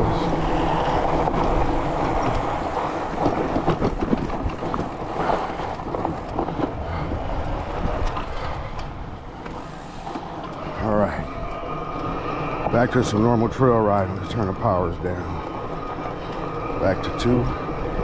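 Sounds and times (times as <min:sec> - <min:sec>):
bicycle tyre noise: 0:00.0 - 0:18.0
bike rattling over rough ground: 0:00.0 - 0:18.0
wind rumble on microphone: 0:00.0 - 0:18.0.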